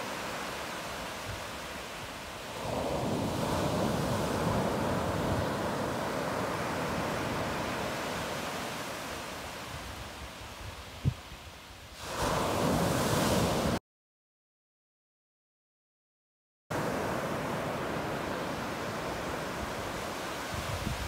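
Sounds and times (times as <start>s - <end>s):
surf washing onto beach: 0.0s - 13.8s, 16.8s - 21.0s.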